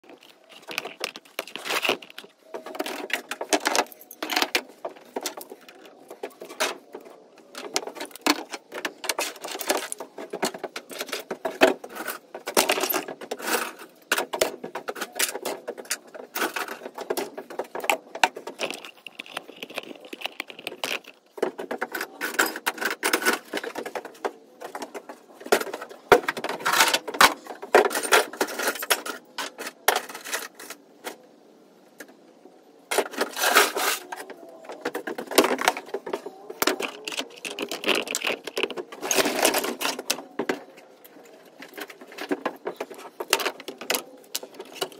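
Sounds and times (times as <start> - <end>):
small metal parts clinking: 0.1 - 6.8, 7.5 - 24.0, 26.4 - 30.8, 34.9 - 44.9.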